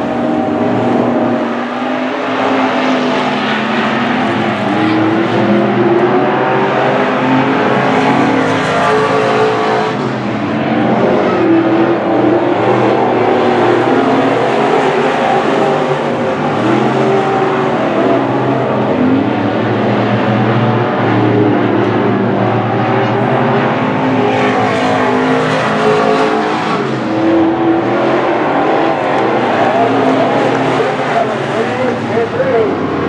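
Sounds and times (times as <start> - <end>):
race car engines roaring: 0.0 - 33.0.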